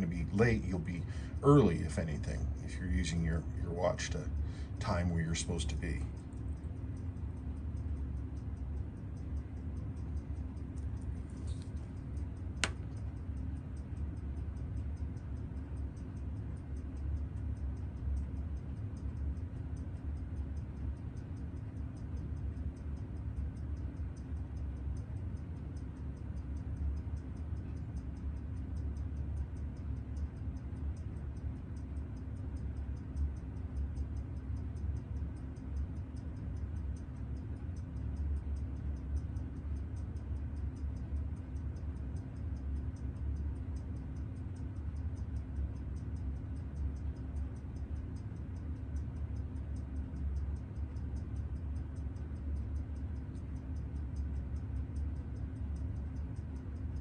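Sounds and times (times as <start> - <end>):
fast even ticking: 0.0 - 11.2, 11.8 - 57.0
low hum: 0.0 - 57.0
sharp click: 4.8 - 57.0.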